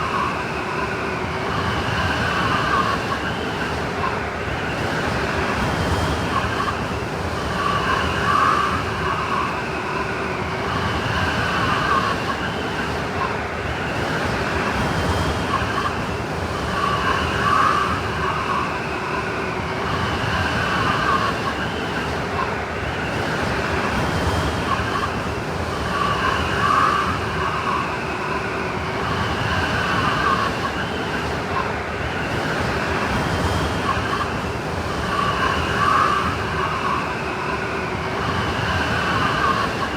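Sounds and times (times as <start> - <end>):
snowstorm wind roaring: 0.0 - 39.9
whistling wind gusts: 0.0 - 39.9.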